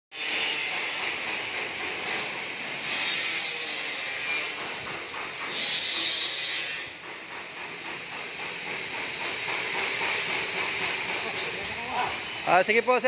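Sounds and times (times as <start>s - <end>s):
cutting torch hissing: 0.2s - 13.0s.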